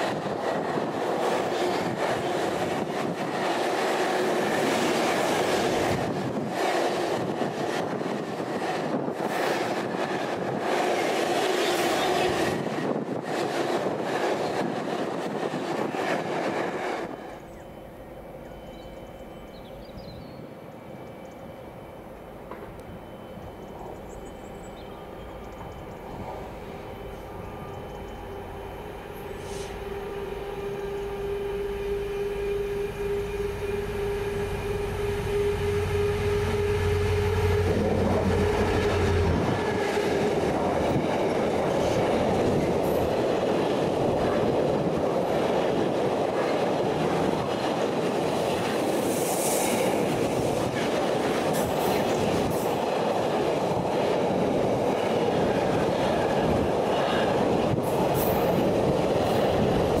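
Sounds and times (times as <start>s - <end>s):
diesel locomotive engine droning: 0.0s - 60.0s
rolling noise of train wagons: 0.0s - 60.0s.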